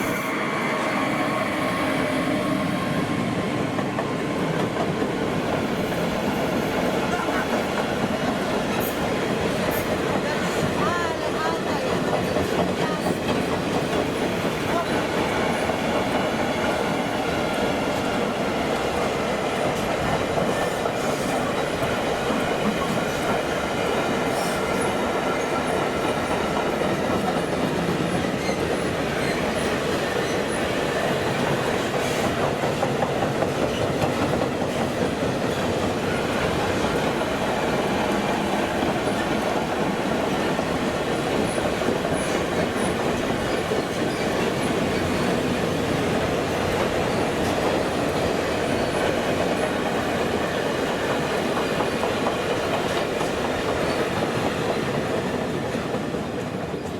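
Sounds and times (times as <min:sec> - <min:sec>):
train wheels on rails: 0:00.0 - 0:56.9.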